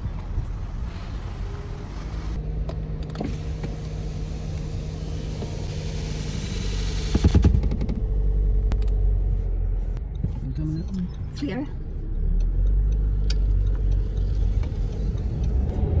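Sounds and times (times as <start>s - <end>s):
car engine and road hum: 0.0s - 16.0s
low outdoor rumble: 0.0s - 16.0s.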